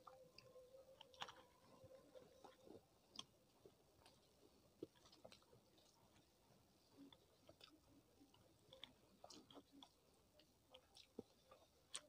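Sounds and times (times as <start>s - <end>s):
fingers mixing rice on a plate: 0.0s - 12.0s
soft chewing: 0.0s - 12.0s.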